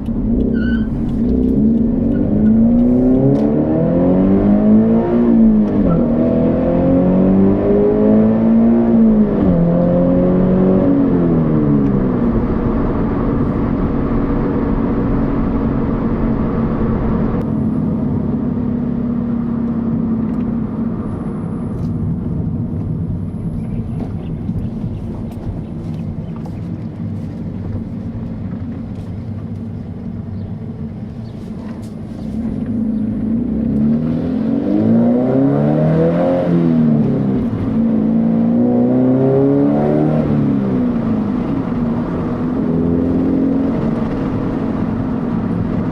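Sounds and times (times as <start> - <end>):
car engine revving: 0.0 - 45.9
road noise: 0.0 - 45.9.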